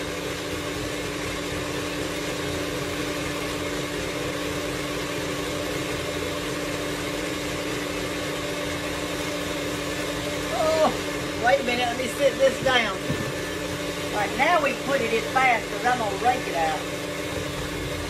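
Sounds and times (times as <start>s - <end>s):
electric mixer motor hum: 0.0s - 18.0s.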